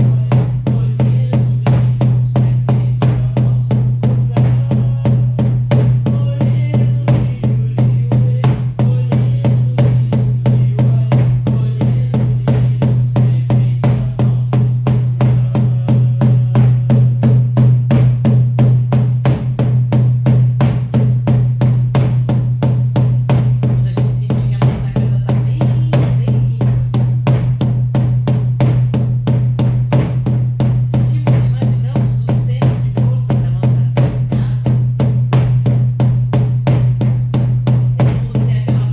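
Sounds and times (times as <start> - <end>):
frame drums beating steadily: 0.0 - 38.9.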